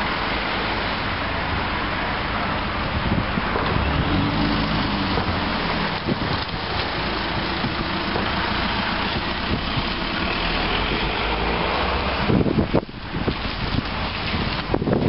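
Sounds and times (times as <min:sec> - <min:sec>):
street noise: 0:00.0 - 0:15.0
vehicle engine running: 0:02.7 - 0:15.0.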